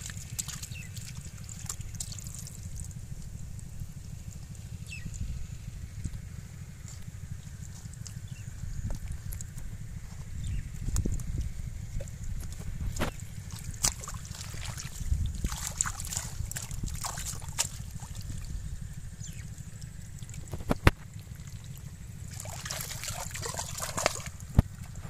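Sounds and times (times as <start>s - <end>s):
mud and water splashing: 0.0s - 25.0s.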